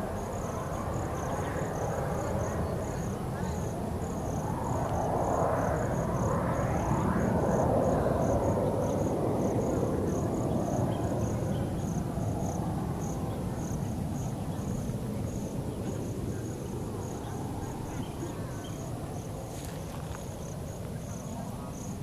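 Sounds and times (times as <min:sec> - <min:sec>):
insects chirping: 0:00.0 - 0:22.0
thin insect whine: 0:00.0 - 0:22.0.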